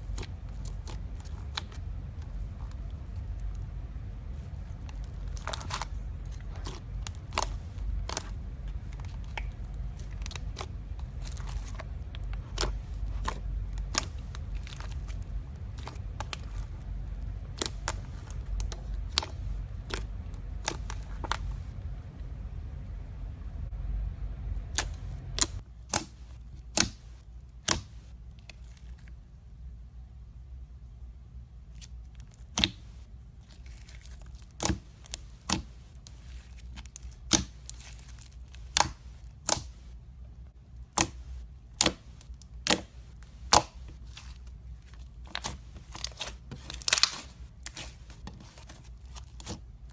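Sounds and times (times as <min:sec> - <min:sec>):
low steady rumble: 0:00.0 - 0:49.9.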